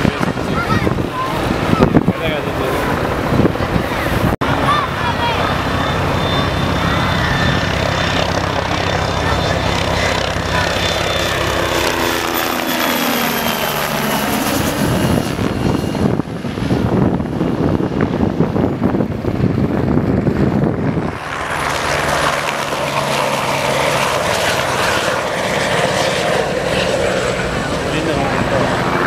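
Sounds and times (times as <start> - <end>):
helicopter flying low: 0.0 - 29.0
high turbine whine: 0.0 - 29.0.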